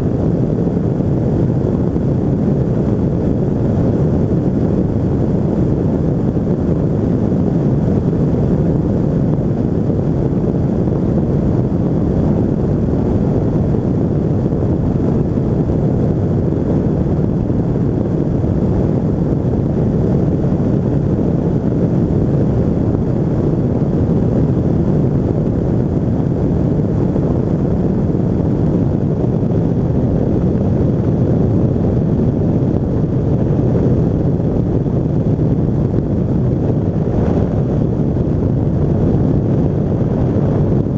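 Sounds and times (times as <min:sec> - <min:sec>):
aircraft engine running: 0:00.0 - 0:40.9
wind rushing over microphone: 0:00.0 - 0:40.9.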